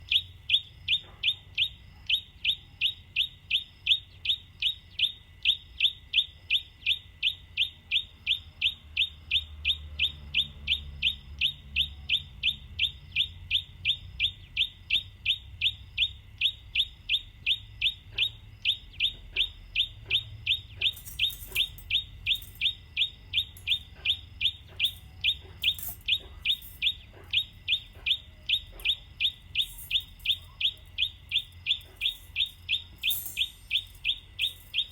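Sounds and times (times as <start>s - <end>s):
bird chirping: 0.0s - 34.9s.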